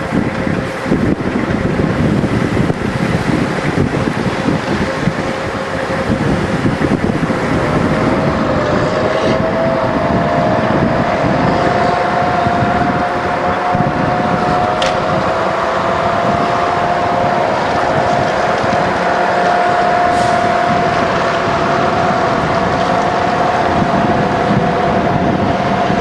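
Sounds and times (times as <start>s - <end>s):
military vehicles driving past: 0.0s - 26.0s
vehicle whine: 0.0s - 26.0s
wind buffeting microphone: 0.0s - 26.0s.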